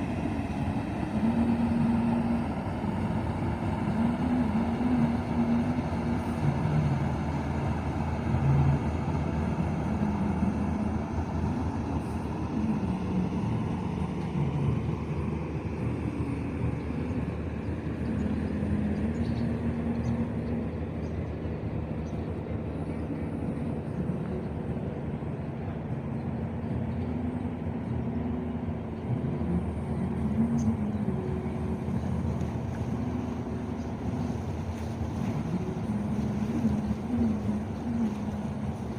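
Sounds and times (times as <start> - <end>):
low wandering hum: 0.0 - 38.9.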